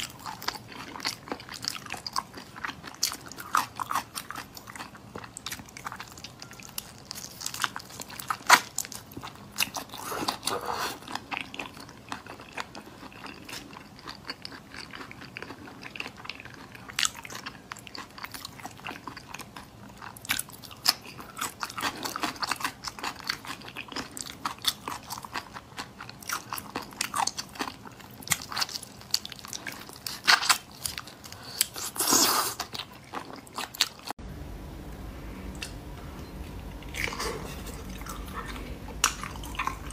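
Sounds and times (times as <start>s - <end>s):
chewing: 0.0s - 34.2s, 36.6s - 39.9s.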